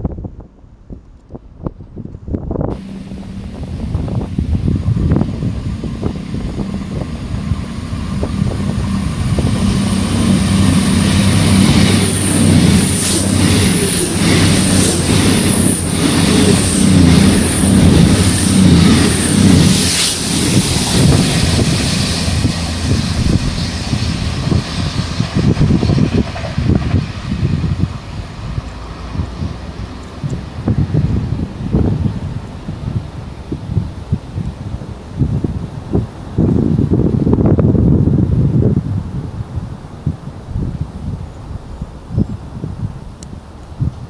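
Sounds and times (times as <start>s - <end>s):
diesel train engines humming: 2.6s - 42.2s.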